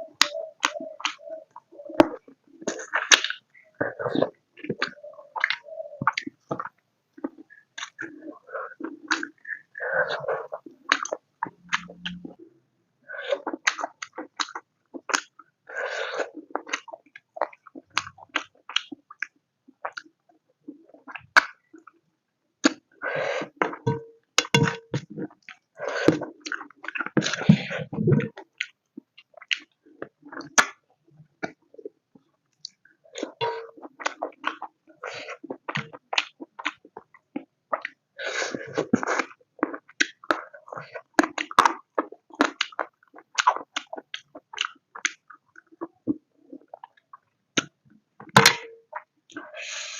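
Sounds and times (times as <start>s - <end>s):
person chewing food: 2.0s - 12.3s, 13.3s - 21.6s, 22.6s - 30.8s, 31.4s - 49.9s.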